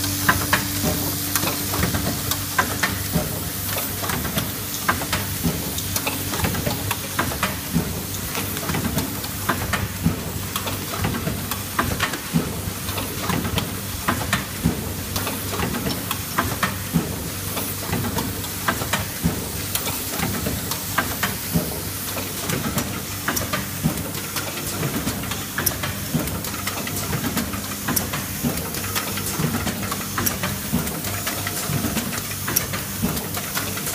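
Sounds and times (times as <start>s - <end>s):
welding machine humming and hissing: 0.0s - 33.9s.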